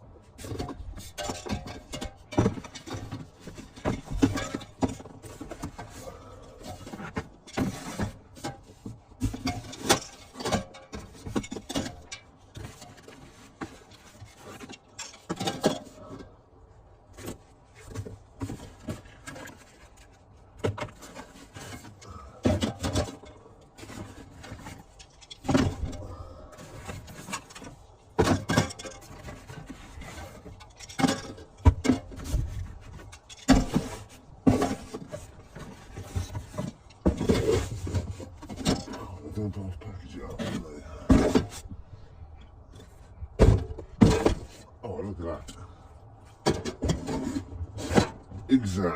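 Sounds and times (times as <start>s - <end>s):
items knocking and clunking: 0.0s - 48.9s.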